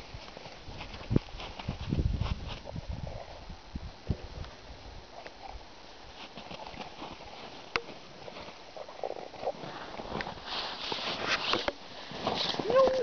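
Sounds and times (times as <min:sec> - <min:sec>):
snow crunching and rustling: 0:00.0 - 0:03.6, 0:05.1 - 0:13.0.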